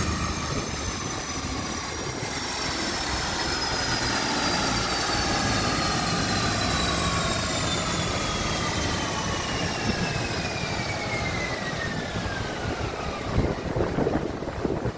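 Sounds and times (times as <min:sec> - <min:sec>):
dyno rollers whine falling: 0:00.0 - 0:14.9.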